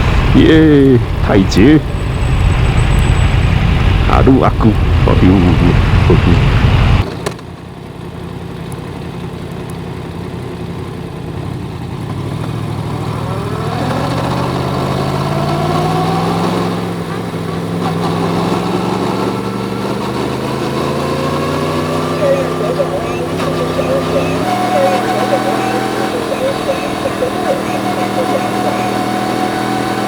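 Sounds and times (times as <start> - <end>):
motorcycle engine accelerating: 4.7 - 30.0.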